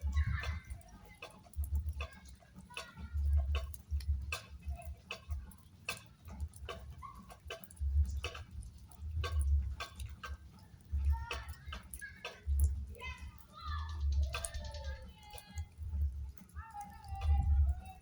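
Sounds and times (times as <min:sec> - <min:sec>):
raindrops tapping: 0:00.0 - 0:18.0.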